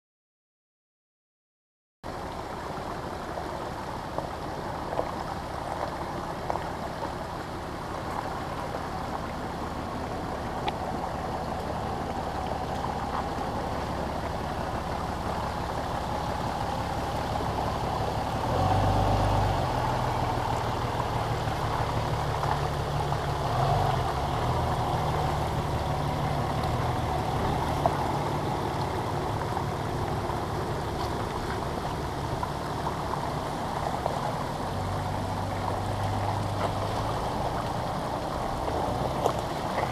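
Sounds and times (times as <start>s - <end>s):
water running over rocks: 2.1s - 39.9s
pickup truck engine: 2.2s - 39.9s.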